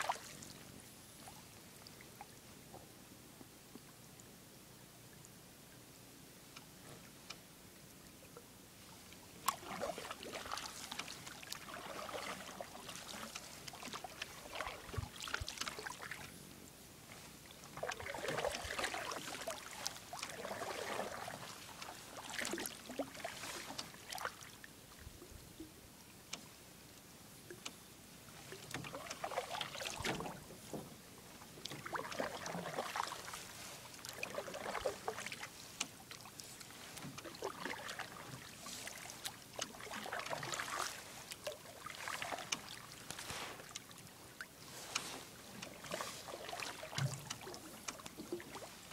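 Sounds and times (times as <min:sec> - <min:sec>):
paddles swishing through water: 0:00.0 - 0:02.8, 0:08.0 - 0:48.9.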